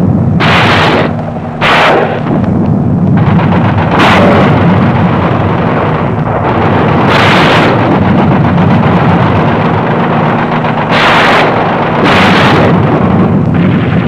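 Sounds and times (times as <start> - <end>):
bursts of harsh noise: 0.0 - 14.0
helicopter drone from cabin: 0.0 - 14.0.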